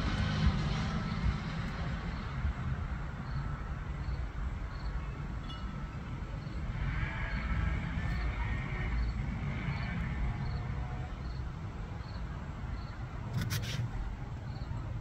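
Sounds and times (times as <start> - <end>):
distant jet airliner rumble: 0.0 - 15.0.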